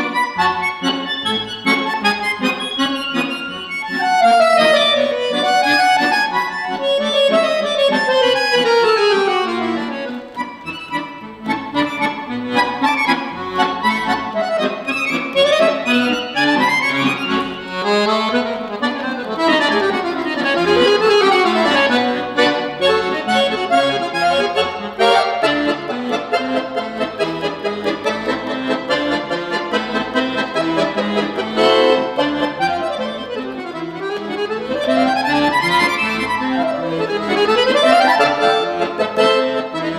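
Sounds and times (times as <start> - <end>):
piano accordion playing fast runs: 0.0 - 39.9.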